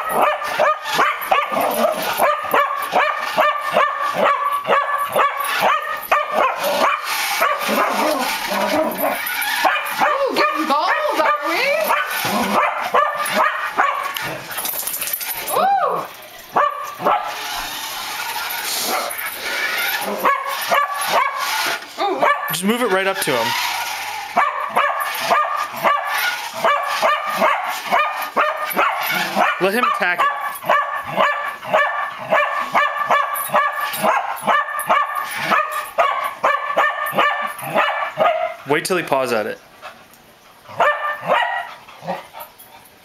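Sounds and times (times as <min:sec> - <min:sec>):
dog barking in high yips: 0:00.0 - 0:14.2, 0:15.5 - 0:17.4, 0:19.9 - 0:22.6, 0:23.2 - 0:38.6, 0:40.8 - 0:41.7.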